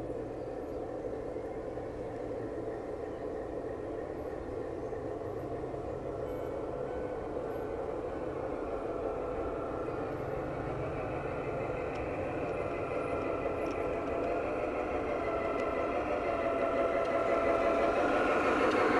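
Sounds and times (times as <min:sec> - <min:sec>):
faint whine: 0:00.0 - 0:18.9
model train mechanical hum: 0:00.0 - 0:18.9.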